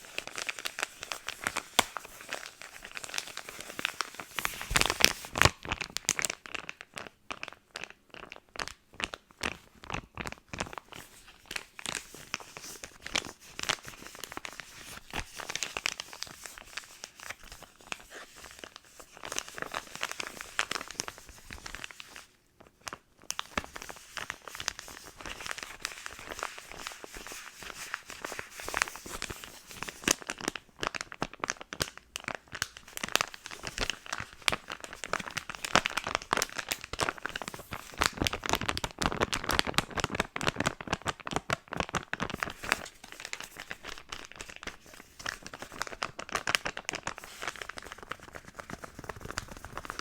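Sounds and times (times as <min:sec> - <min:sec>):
packaging crinkling: 0:00.0 - 0:50.0.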